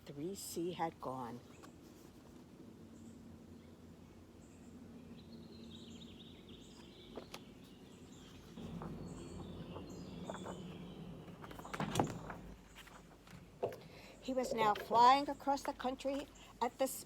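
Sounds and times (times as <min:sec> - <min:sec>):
low steady background noise: 0:00.0 - 0:17.0
small birds chirping: 0:00.1 - 0:17.0.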